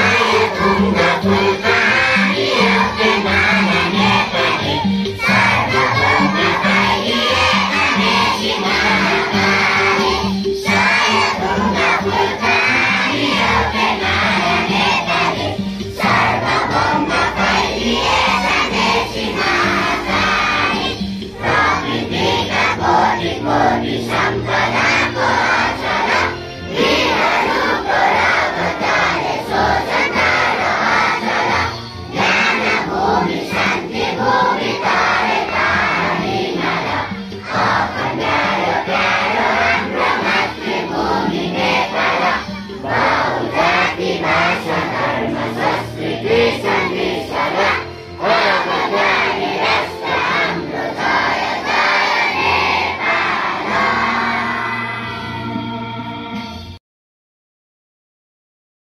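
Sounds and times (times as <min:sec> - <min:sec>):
children singing in unison: 0:00.0 - 0:56.2.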